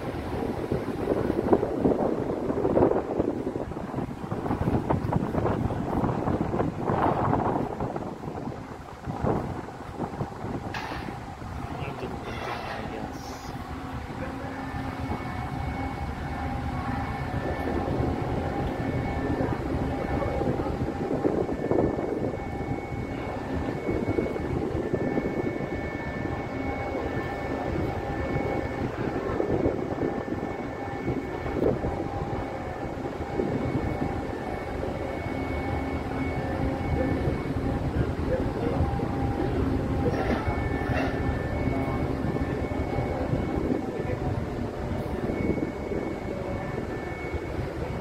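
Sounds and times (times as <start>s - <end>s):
faint steady whining tones: 0.0s - 48.0s
heavy diesel engines rumbling: 0.0s - 48.0s.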